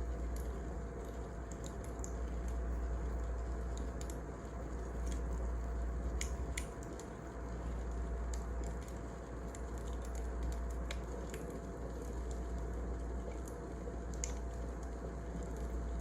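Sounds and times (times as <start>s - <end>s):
wood fire crackling and popping: 0.1s - 16.0s.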